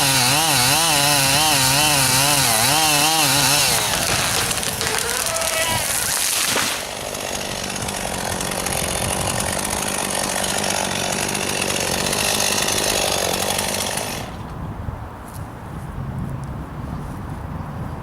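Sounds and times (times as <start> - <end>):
chainsaw cutting wood: 0.0 - 14.6.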